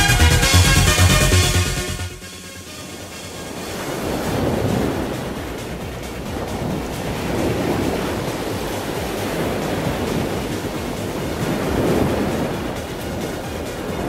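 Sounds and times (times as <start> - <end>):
whitewater rapids roaring: 2.7 - 14.0.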